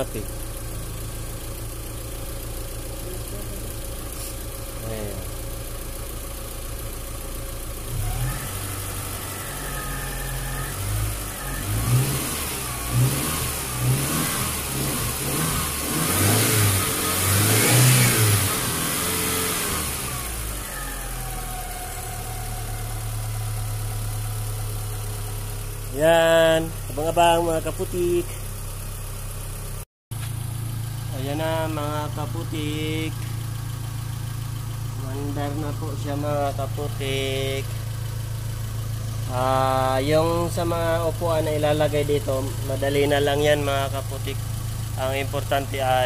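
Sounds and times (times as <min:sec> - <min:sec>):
van engine idling and revving: 0:00.0 - 0:46.0.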